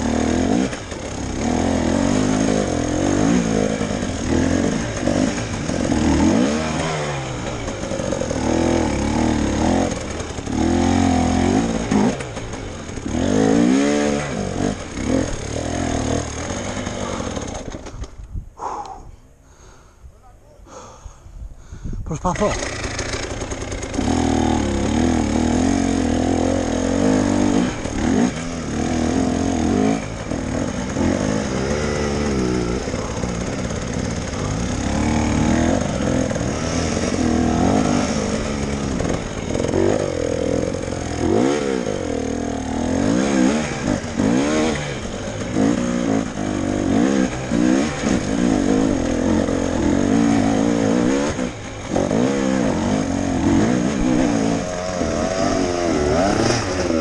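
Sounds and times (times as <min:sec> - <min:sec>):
motorcycle engine revving: 0:00.0 - 0:18.9, 0:22.3 - 0:57.0.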